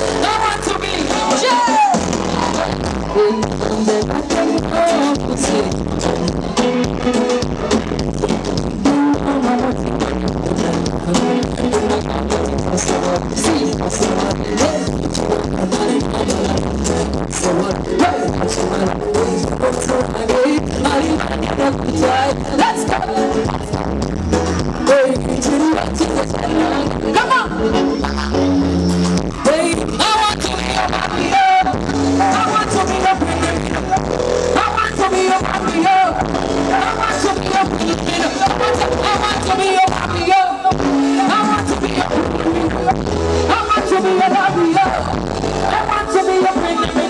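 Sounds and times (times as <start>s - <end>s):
woman singing into a microphone: 0.0s - 7.4s, 8.2s - 24.0s, 24.6s - 28.5s, 29.4s - 47.0s
band music: 0.0s - 47.0s
electric bass: 0.0s - 47.0s
keyboards: 0.0s - 47.0s.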